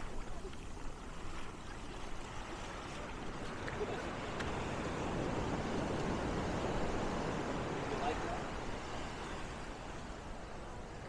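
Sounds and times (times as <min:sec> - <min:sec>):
ocean surf washing in: 0:02.1 - 0:11.0.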